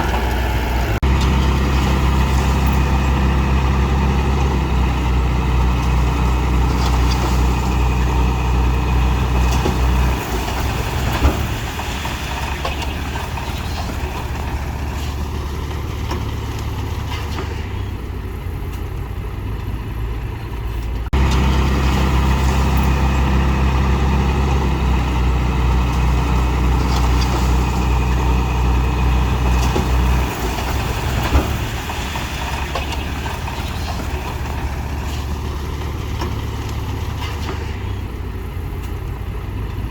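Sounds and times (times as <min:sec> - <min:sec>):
diesel machinery engine droning: 0:00.0 - 0:39.9.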